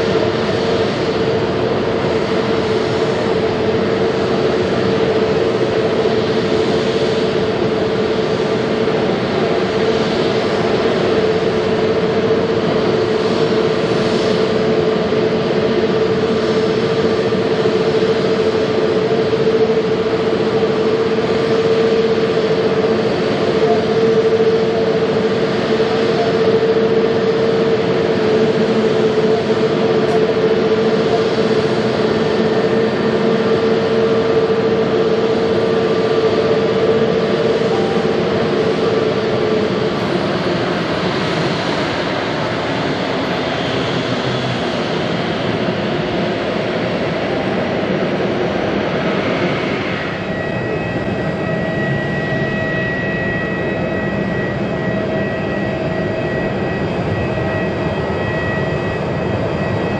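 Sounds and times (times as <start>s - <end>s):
jet engines droning with whine: 0.0s - 59.9s.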